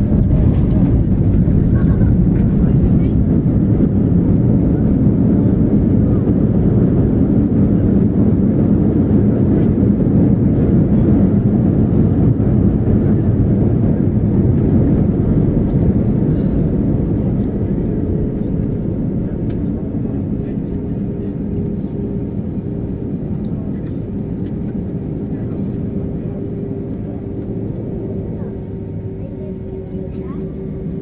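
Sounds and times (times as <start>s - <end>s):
jet engine cabin rumble: 0.0s - 31.0s.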